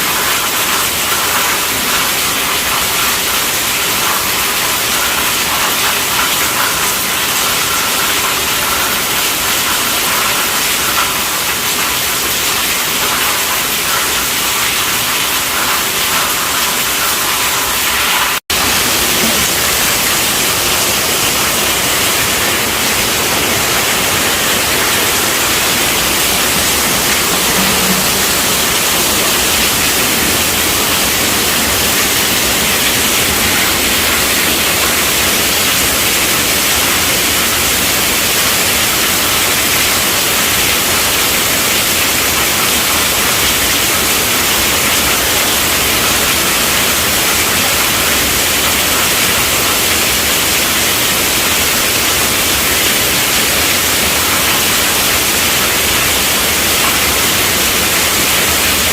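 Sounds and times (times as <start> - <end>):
heavy rainfall: 0.0 - 58.9.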